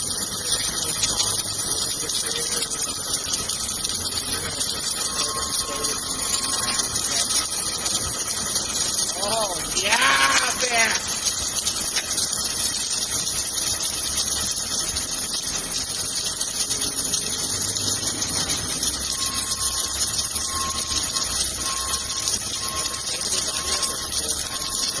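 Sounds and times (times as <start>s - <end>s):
welding equipment hiss: 0.0s - 25.0s.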